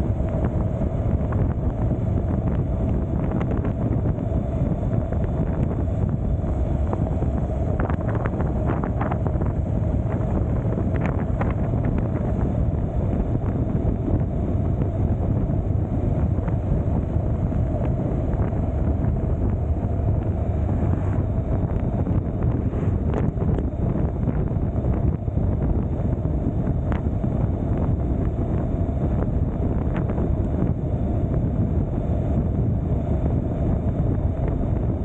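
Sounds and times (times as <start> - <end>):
road and engine rumble: 0.0 - 35.0
wind buffeting microphone: 0.0 - 35.0.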